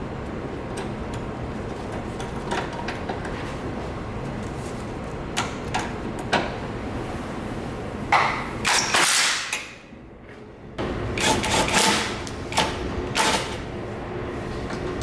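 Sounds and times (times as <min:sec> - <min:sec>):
steady machine hum: 0:00.0 - 0:08.7, 0:09.8 - 0:15.0.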